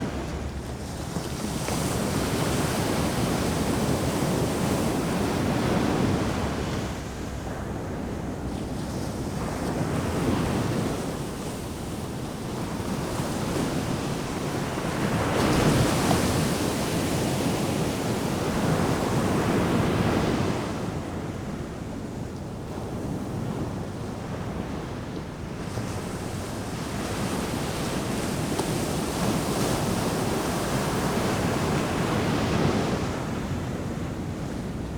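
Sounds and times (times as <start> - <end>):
ocean surf breaking on beach: 0.0 - 21.6, 22.6 - 34.9.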